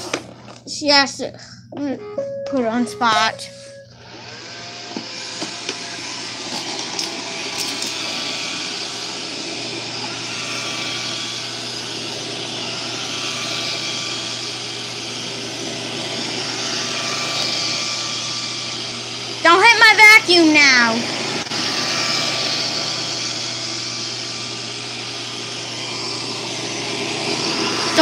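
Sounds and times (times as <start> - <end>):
robot vacuum whirring: 4.0 - 28.0.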